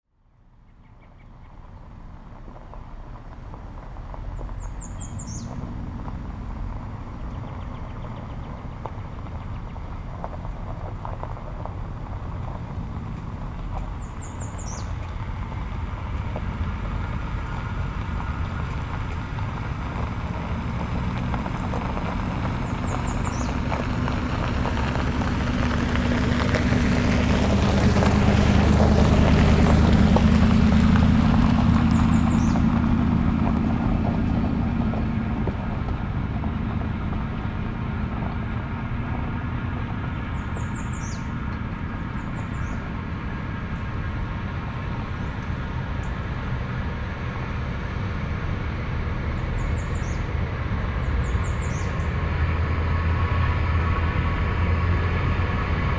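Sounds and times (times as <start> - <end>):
truck engine: 1.8 - 55.9
tyres crunching on gravel: 2.3 - 55.9.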